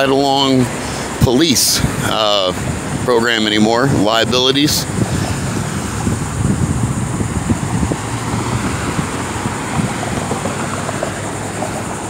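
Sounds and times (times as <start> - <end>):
cars driving past: 0.0 - 12.0
wind buffeting microphone: 0.0 - 12.0.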